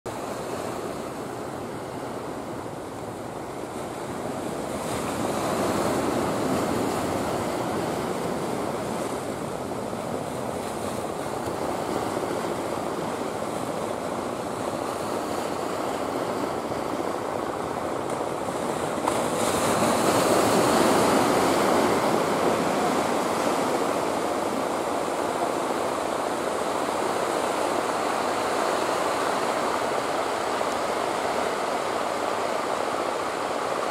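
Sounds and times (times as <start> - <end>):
wind: 0.0 - 33.9
sea surf on rocks: 0.1 - 33.9.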